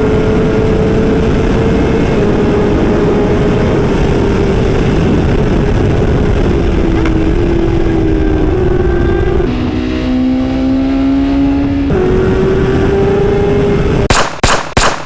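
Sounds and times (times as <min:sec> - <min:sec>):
wind rush on microphone: 0:00.0 - 0:14.2
motorcycle engine at high speed: 0:00.0 - 0:15.0.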